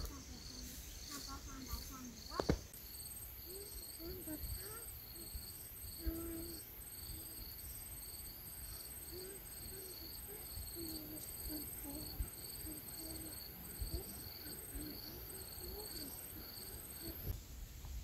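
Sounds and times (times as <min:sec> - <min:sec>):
faint low wavering calls: 0:00.0 - 0:17.4
insects chirping in pulses: 0:00.0 - 0:17.5.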